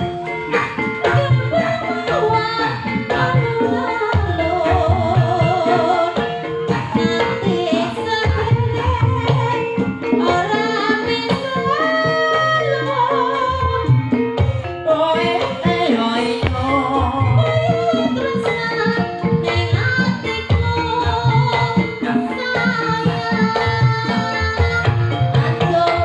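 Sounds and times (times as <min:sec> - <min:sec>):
person singing wavering melody: 0:00.0 - 0:14.0, 0:14.8 - 0:26.0
hand drum strokes: 0:00.0 - 0:26.0
instrumental backing: 0:00.0 - 0:26.0.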